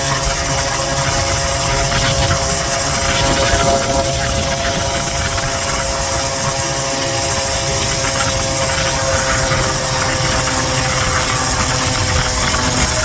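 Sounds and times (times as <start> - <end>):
scooter engine droning: 0.0 - 13.0.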